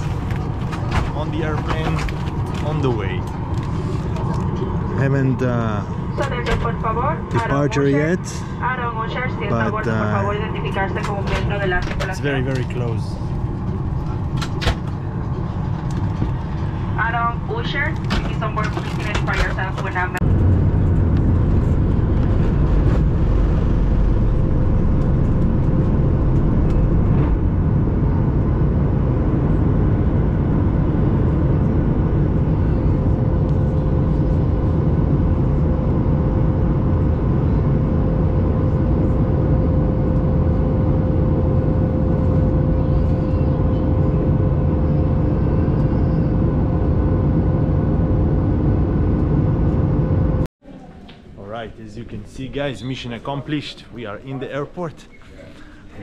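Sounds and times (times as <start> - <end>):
constant engine whine: 0.0 - 50.5
jet engine rush in cabin: 0.0 - 50.5.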